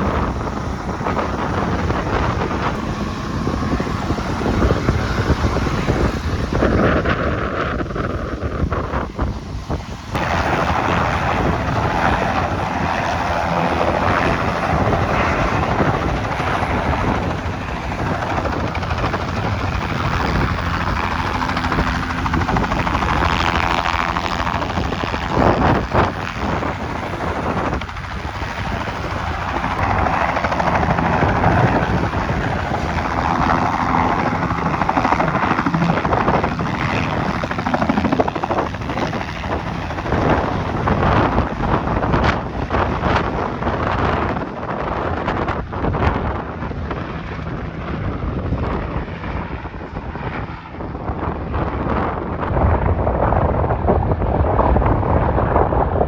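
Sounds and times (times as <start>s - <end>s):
helicopter drone: 0.0s - 56.0s.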